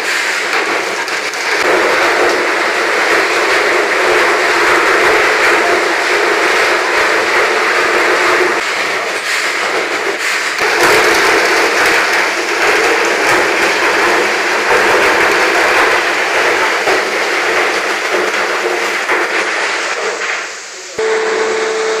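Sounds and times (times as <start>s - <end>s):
ore machinery mechanical din: 0.0s - 22.0s.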